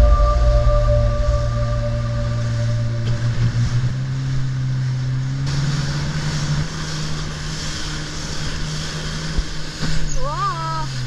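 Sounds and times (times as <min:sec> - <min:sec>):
jet ski engine humming: 0:00.0 - 0:11.0.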